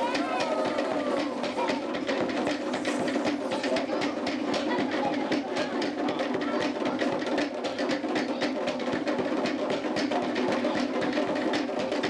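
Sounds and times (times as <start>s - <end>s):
fast drumming: 0.0s - 12.0s.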